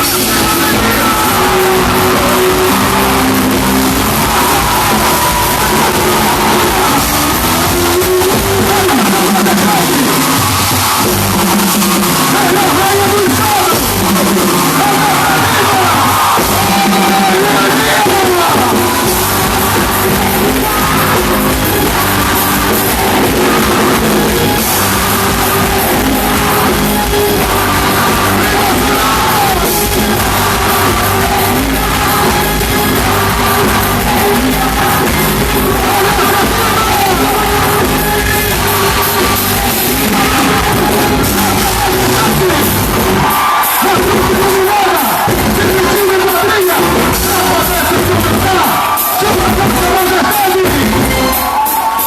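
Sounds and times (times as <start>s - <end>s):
loud music: 0.0s - 52.0s
people yelling: 0.0s - 52.0s
person singing: 0.0s - 52.0s.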